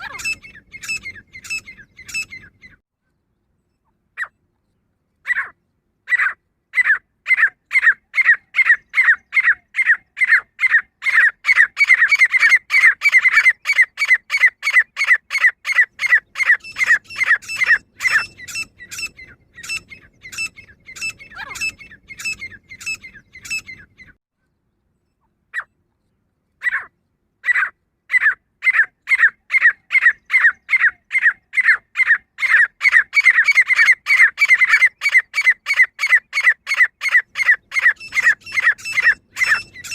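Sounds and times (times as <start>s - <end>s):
francolin calling: 0.0s - 2.8s, 6.1s - 24.2s, 27.5s - 39.9s.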